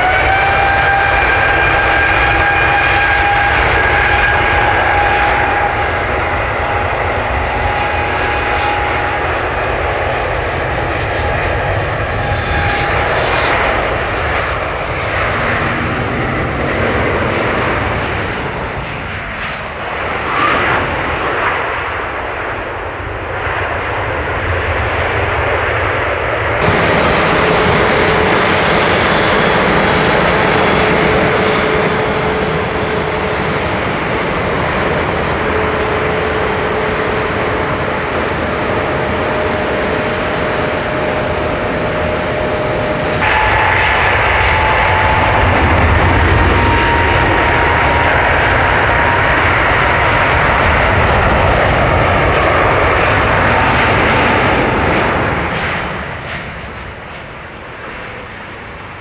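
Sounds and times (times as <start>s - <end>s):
jet engines whining and roaring: 0.0s - 59.0s.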